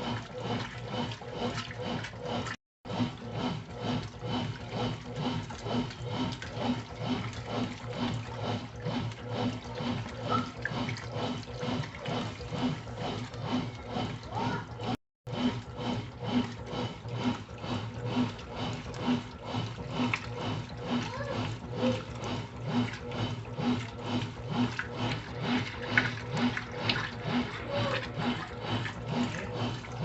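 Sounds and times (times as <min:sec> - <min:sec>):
washing machine motor hum: 0:00.0 - 0:30.0
washing machine water sloshing: 0:00.0 - 0:30.0.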